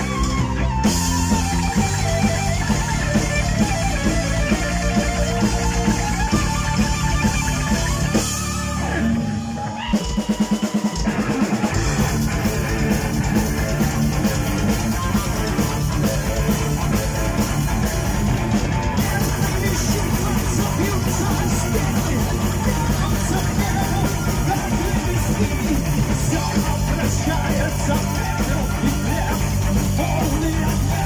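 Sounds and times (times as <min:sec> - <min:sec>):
bass guitar: 0:00.0 - 0:31.0
distorted electric guitar: 0:00.0 - 0:31.0
drum kit: 0:00.0 - 0:31.0.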